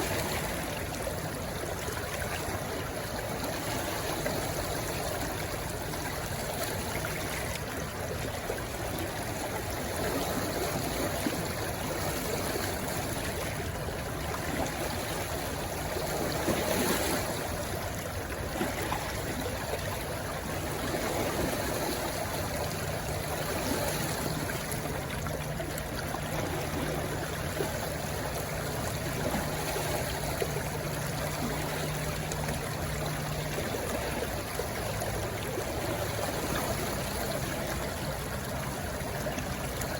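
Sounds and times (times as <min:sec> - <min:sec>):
stream rushing: 0:00.0 - 0:39.9
water trickling: 0:00.0 - 0:39.9.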